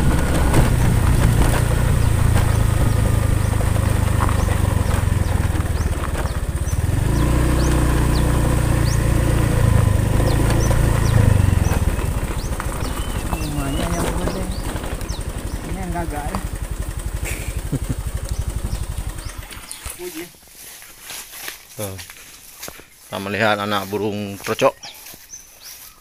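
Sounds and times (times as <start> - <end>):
small motorcycle engine running: 0.0 - 21.5.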